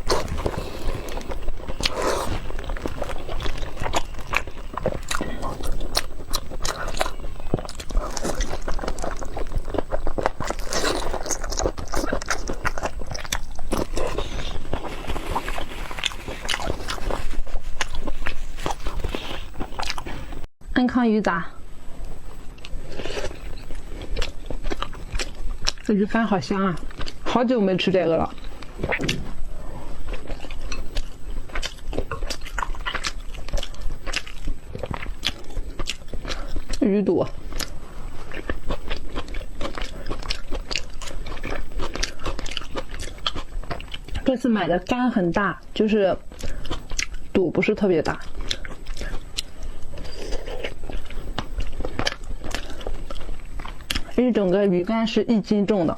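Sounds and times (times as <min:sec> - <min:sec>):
person chewing and biting: 0:00.0 - 0:20.5, 0:22.6 - 0:25.9, 0:28.4 - 0:36.8, 0:37.4 - 0:44.2, 0:46.3 - 0:47.3, 0:48.2 - 0:54.2.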